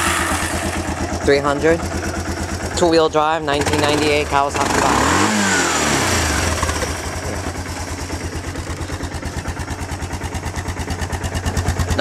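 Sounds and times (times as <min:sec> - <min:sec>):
four-stroke engine idling: 0:00.0 - 0:12.0.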